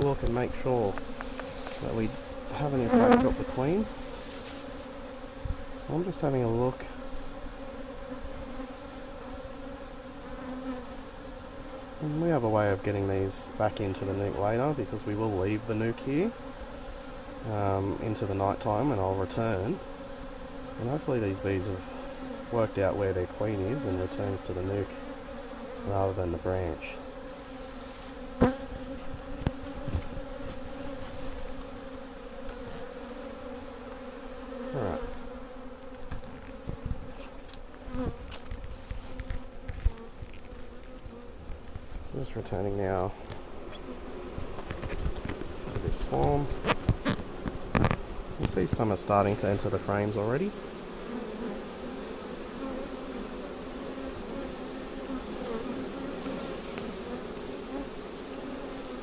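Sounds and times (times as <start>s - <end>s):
bee swarm buzzing: 0.0s - 59.0s.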